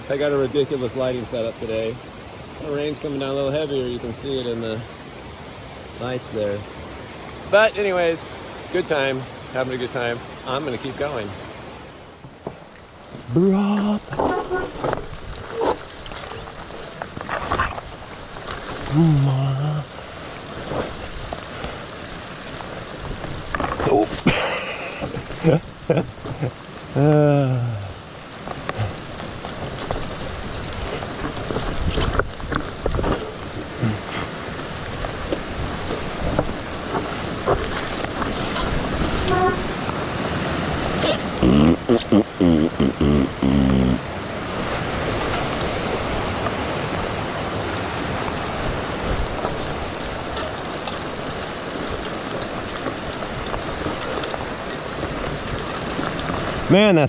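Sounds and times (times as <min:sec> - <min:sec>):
creek water rushing: 0:00.0 - 0:57.0
steady rain falling: 0:00.0 - 0:57.0.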